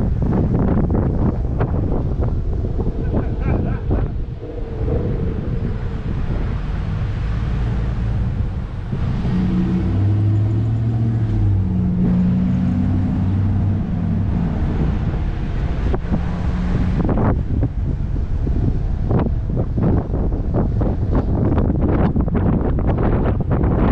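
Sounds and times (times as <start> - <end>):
car engine hum: 0.0 - 23.9
road noise: 0.0 - 23.9.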